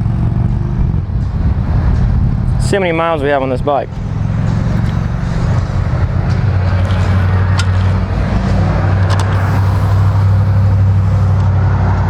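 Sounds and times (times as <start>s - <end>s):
vehicle engine idling: 0.7s - 11.4s.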